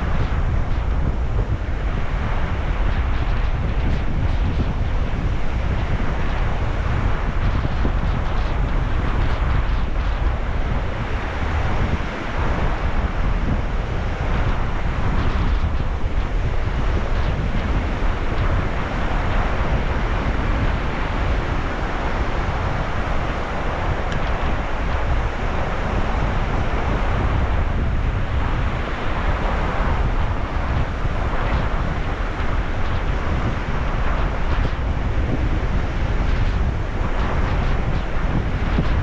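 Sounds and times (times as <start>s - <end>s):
sea waves washing in: 0.0s - 39.0s
wind buffeting microphone: 0.0s - 39.0s.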